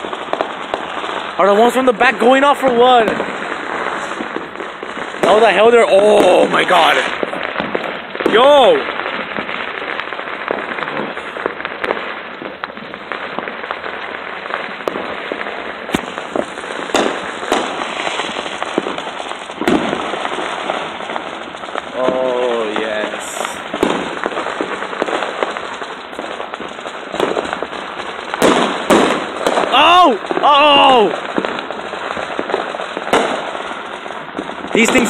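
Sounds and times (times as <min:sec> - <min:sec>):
firecracker bangs: 0:00.0 - 0:35.0
fireworks crackling: 0:00.0 - 0:35.0.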